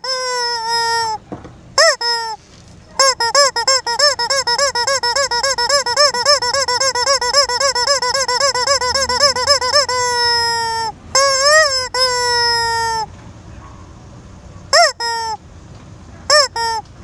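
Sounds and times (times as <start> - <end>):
squeaky toy chicken squeaking: 0.0 - 1.2, 1.8 - 13.1, 14.7 - 15.4, 16.3 - 16.9.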